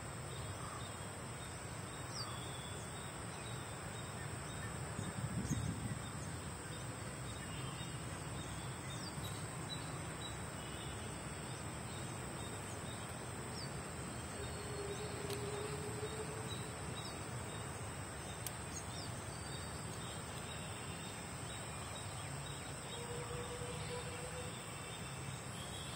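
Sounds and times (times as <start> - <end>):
background hiss: 0.0 - 25.9
high-pitched insect trill: 0.3 - 25.9.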